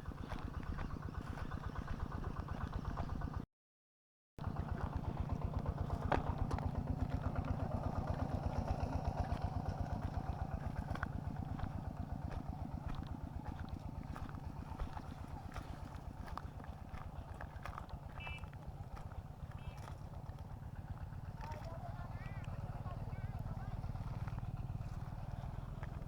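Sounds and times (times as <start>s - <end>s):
small engine running: 0.0s - 3.5s, 4.4s - 26.0s.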